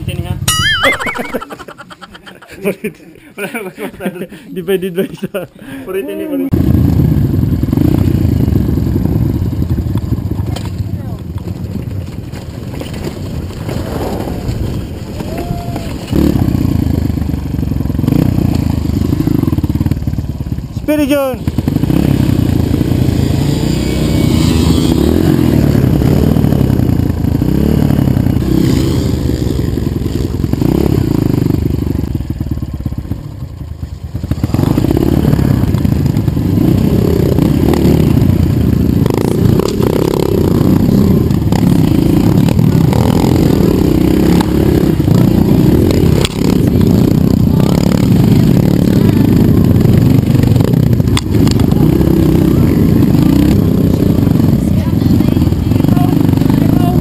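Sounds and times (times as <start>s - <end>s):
dirt bike engine revving: 6.5s - 10.4s, 12.8s - 57.0s.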